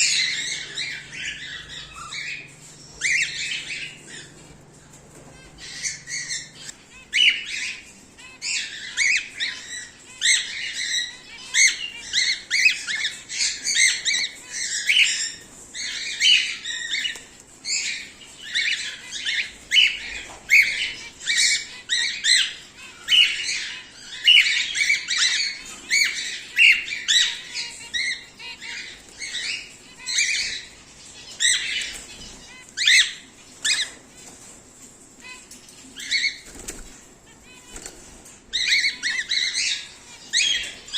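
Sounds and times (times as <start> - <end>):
cockatiels chirping and squawking: 0.0 - 40.9.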